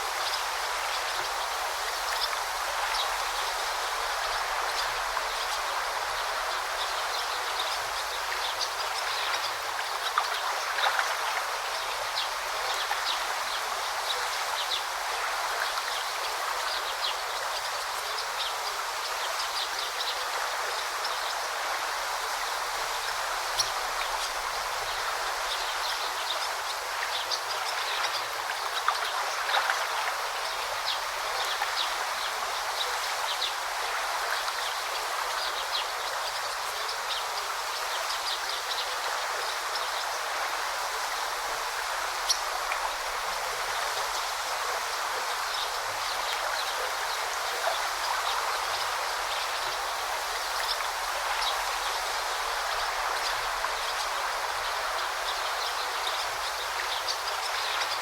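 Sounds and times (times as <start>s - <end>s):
forest stream babbling: 0.0s - 58.0s.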